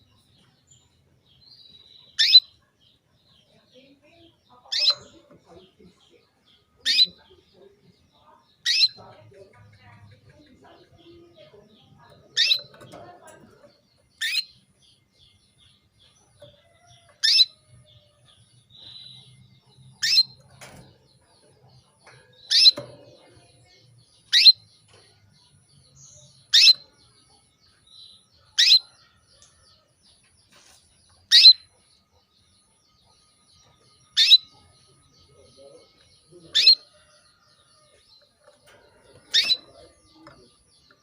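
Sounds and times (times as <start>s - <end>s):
canary chirps: 0.0s - 41.0s.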